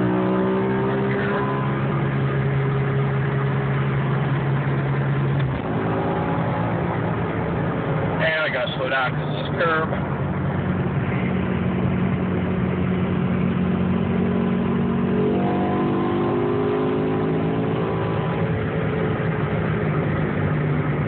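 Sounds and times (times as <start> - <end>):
car engine running: 0.0 - 15.5, 16.2 - 21.0
road and wind noise: 0.0 - 21.0.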